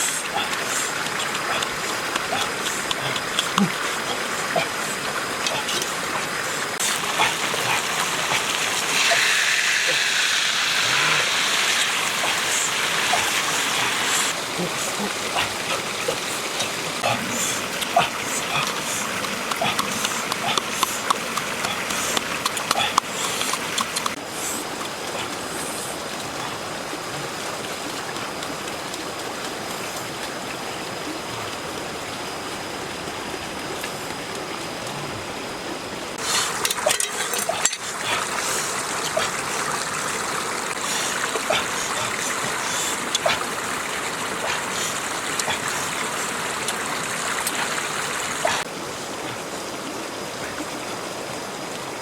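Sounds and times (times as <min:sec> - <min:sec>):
stream water rushing: 0:00.0 - 0:52.0
water splashing: 0:00.0 - 0:52.0.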